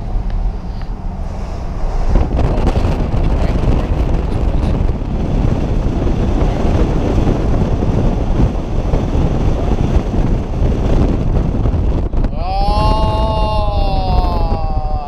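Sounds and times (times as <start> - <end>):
moving vehicle road and engine noise: 0.0 - 15.0
wind buffeting microphone: 0.0 - 15.0.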